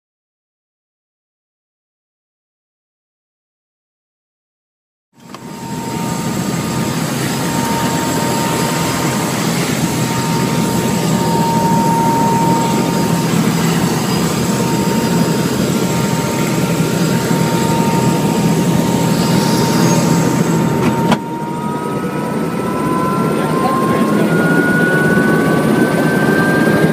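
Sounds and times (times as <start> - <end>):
helicopter rotor noise: 5.2 - 26.9
helicopter turbine whine: 5.2 - 26.9.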